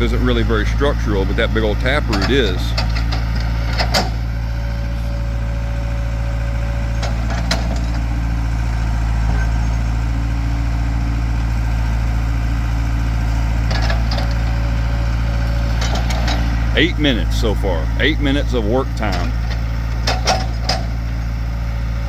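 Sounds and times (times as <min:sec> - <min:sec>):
heavy engine running: 0:00.0 - 0:22.0.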